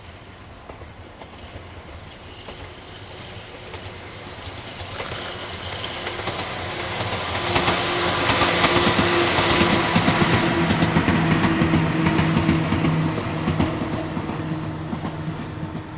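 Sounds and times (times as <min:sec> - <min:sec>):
electric train hum: 0:00.0 - 0:15.9
train wheels clacking over joints: 0:00.6 - 0:15.9.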